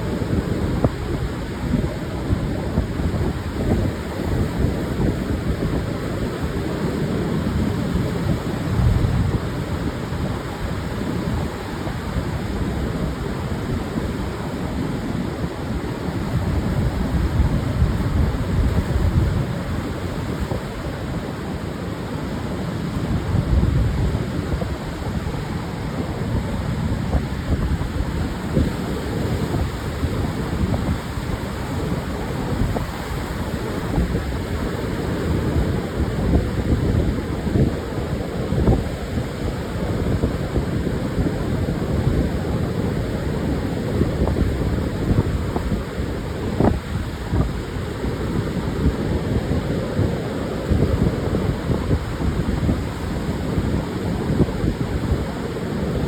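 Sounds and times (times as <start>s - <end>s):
surf washing onto beach: 0.0s - 56.0s
wind buffeting microphone: 0.0s - 56.0s.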